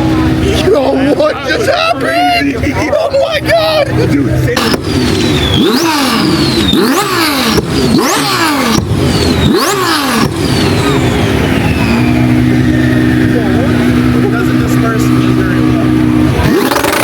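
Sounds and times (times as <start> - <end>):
car engine idling: 0.0 - 17.0
car engine revving: 0.0 - 17.0
high whine: 0.0 - 17.0.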